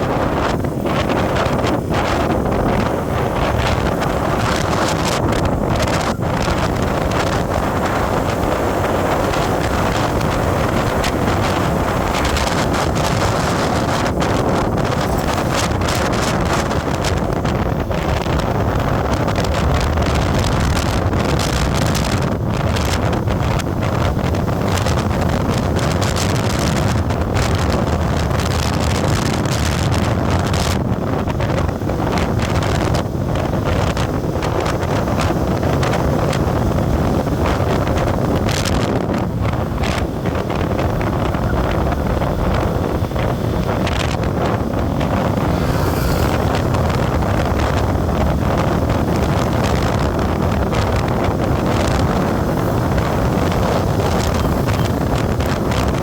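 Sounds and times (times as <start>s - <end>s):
vehicle rumble on road: 0.0s - 56.0s
wind buffeting microphone: 0.0s - 56.0s.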